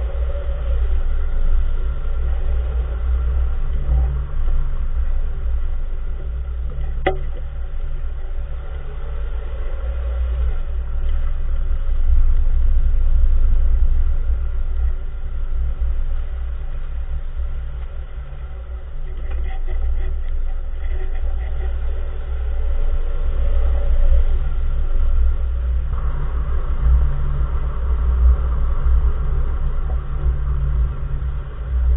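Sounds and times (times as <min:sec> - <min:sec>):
car engine rumbling: 0:00.0 - 0:31.9.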